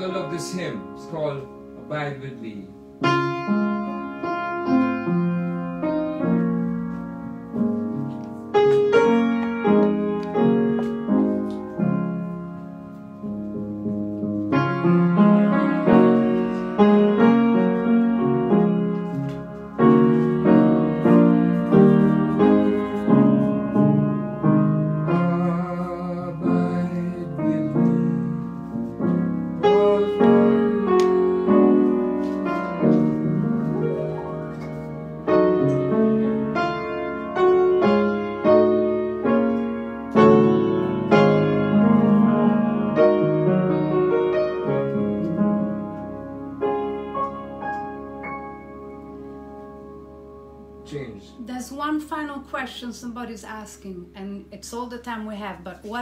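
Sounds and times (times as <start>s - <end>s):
solo jazz piano: 0.0s - 51.8s.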